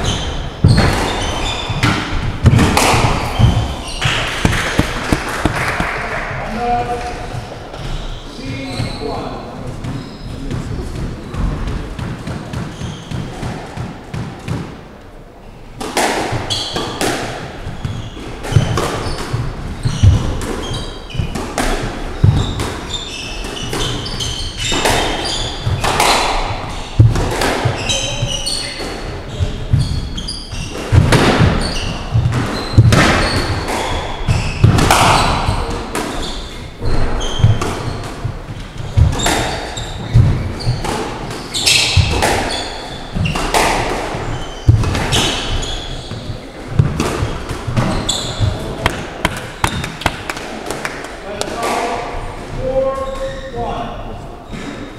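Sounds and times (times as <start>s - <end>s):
shoes squeaking on wooden floor: 0.0s - 14.6s, 15.4s - 53.8s
squash ball hitting rackets and walls: 0.0s - 53.4s.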